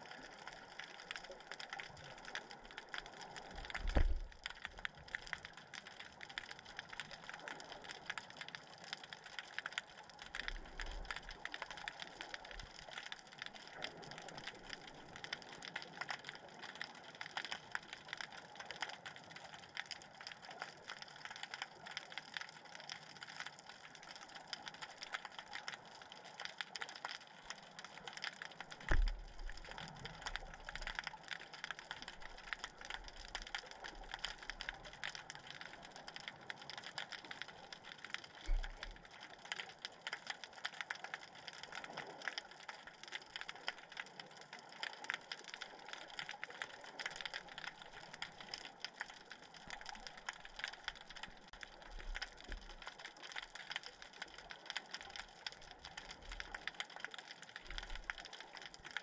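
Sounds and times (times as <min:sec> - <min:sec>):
underwater crackling clicks: 0:00.0 - 0:59.0.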